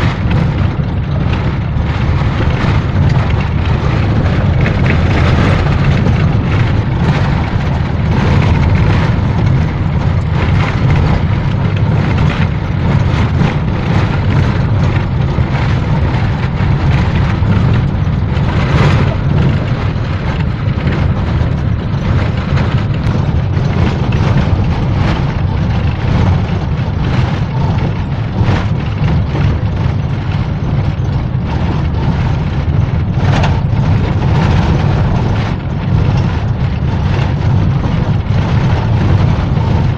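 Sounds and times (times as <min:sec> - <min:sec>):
engine and road rumble: 0:00.0 - 0:39.9
short knocks and rattles: 0:00.0 - 0:39.9.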